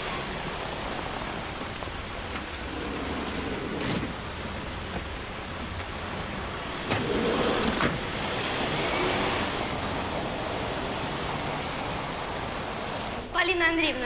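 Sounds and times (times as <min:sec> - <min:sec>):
rain on cobbled street: 0:00.0 - 0:14.0.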